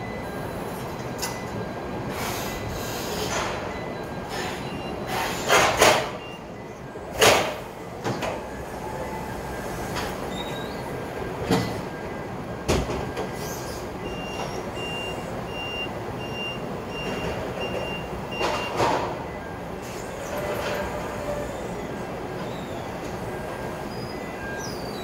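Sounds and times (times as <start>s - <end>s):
forklift reversing alarm beeping: 0.0s - 25.0s.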